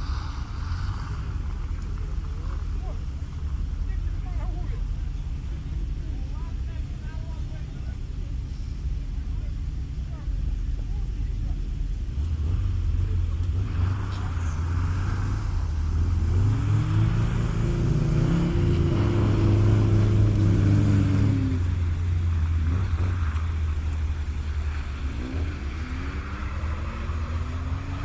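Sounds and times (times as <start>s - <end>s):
steady low rumble: 0.0s - 28.0s
vehicle engine accelerating: 0.0s - 28.0s.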